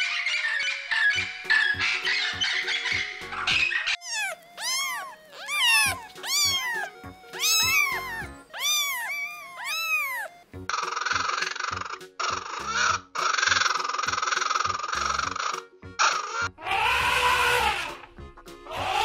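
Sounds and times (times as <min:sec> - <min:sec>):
background music: 0:00.0 - 0:19.0
kittens mewing: 0:01.7 - 0:18.1.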